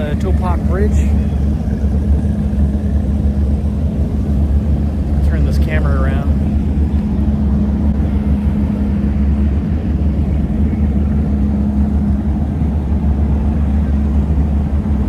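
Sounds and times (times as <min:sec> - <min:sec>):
motorboat engine humming: 0:00.0 - 0:15.0.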